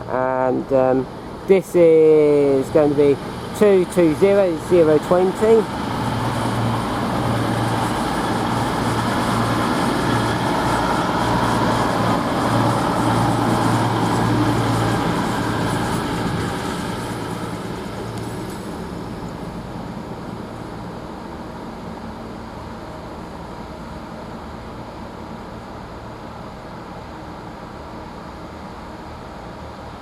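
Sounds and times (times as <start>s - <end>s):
train engine hum: 0.0s - 30.0s.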